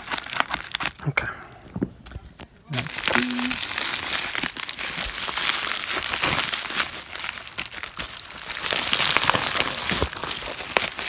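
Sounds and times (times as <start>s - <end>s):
plastic packaging crinkling: 0.0s - 1.1s, 2.7s - 11.0s.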